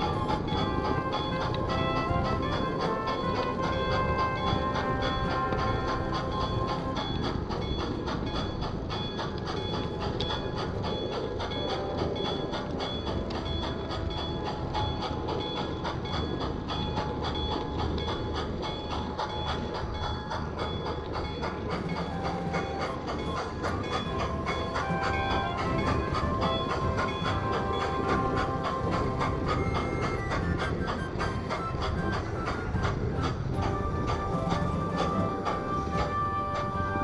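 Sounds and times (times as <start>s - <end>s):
model train wheels clicking: 0.0s - 37.0s.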